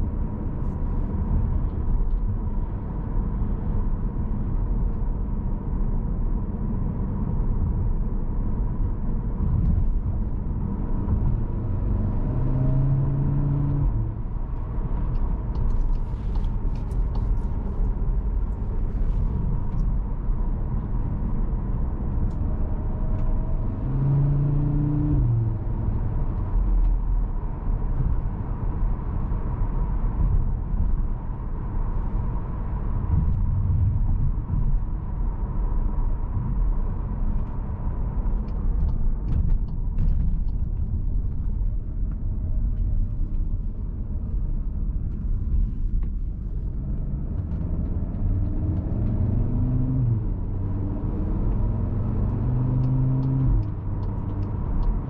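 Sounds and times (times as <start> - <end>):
road and tyre rumble: 0.0 - 55.0.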